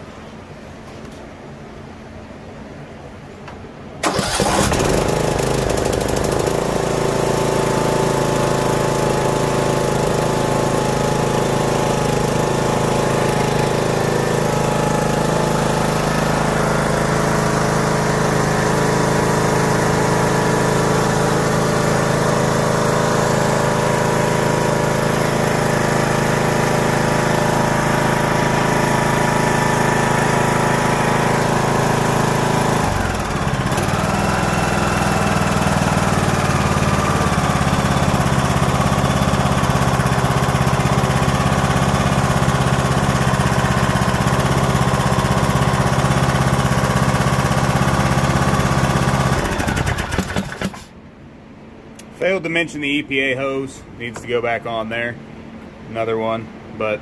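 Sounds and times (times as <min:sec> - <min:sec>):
riding mower engine running: 0:04.0 - 0:51.0.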